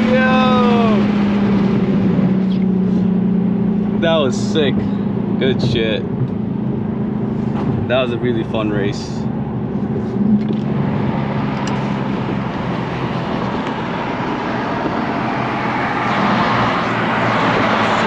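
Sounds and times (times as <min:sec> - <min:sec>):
car engine cruising: 0:00.0 - 0:18.0.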